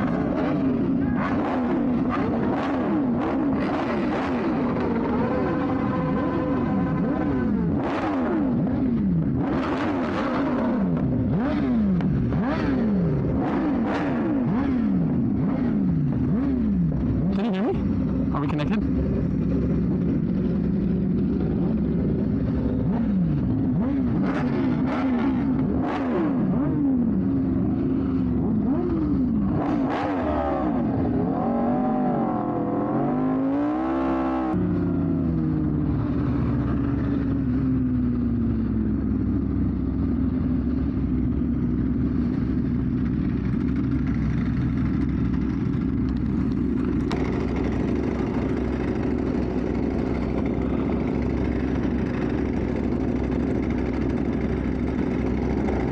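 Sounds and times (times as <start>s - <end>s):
vehicle engines revving: 0.0s - 55.9s.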